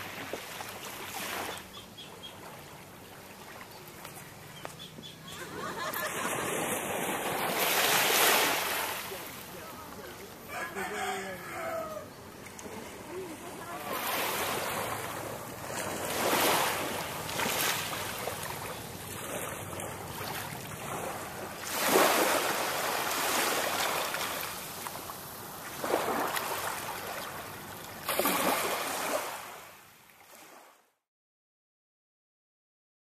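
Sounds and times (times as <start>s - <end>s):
small waves washing on sand: 0.0s - 30.8s.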